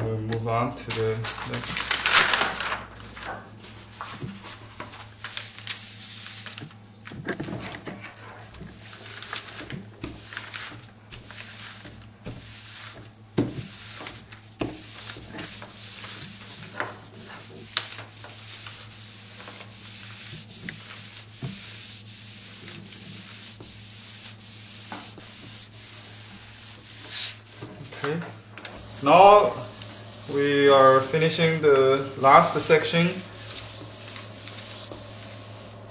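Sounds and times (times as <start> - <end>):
paper rustling: 0.9 - 35.9
iron scraping on paper: 1.2 - 6.7, 8.1 - 35.9.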